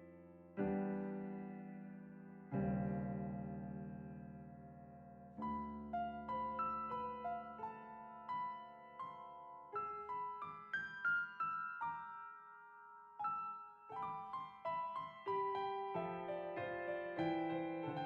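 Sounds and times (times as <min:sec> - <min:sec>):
slow solo piano melody: 0:00.0 - 0:18.0.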